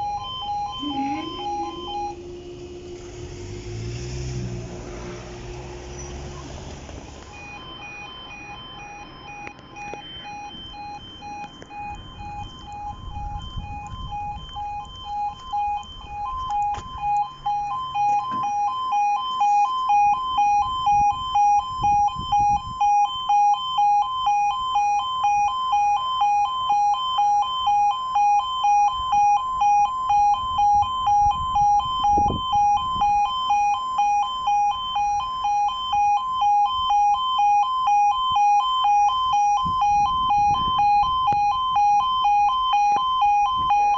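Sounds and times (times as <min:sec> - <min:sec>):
level crossing alarm: 0:00.0 - 0:43.9.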